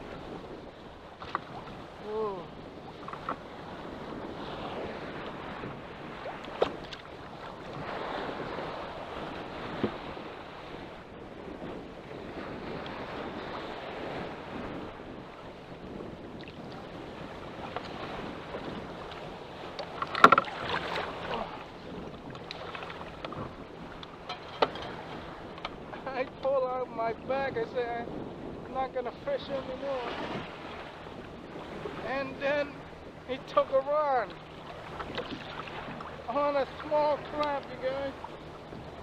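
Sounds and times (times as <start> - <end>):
choppy water: 0.0 - 39.0
wind buffeting microphone: 0.0 - 39.0.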